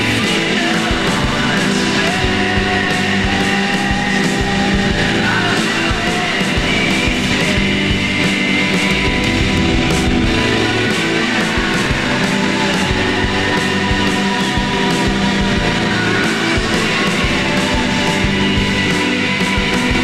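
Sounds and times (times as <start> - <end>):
distorted guitars: 0.0 - 20.0
drums: 0.0 - 20.0.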